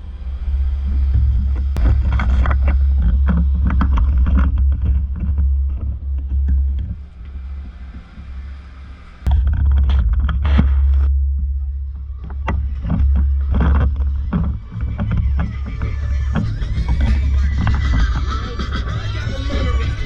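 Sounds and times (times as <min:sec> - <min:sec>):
wind rumble on microphone: 0:00.0 - 0:20.0
rustling and clicks from movement: 0:01.0 - 0:18.4.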